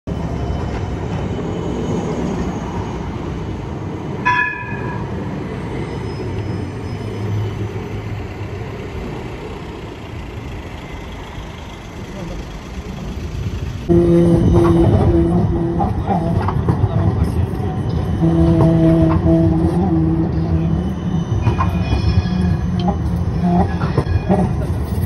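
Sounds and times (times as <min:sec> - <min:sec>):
tram rumbling past: 0:00.1 - 0:25.0
tram warning bell: 0:00.1 - 0:25.0.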